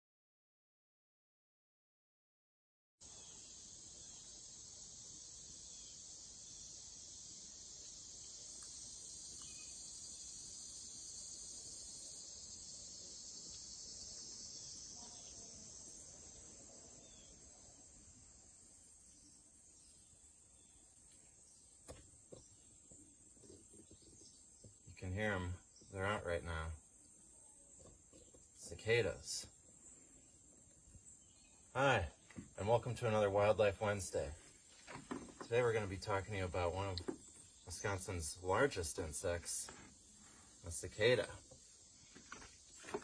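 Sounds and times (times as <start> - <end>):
cicadas buzzing: 3.0 - 43.0.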